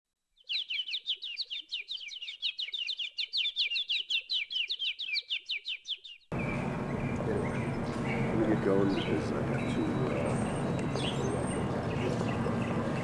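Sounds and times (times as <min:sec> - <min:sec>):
bird chirping: 0:00.4 - 0:13.0.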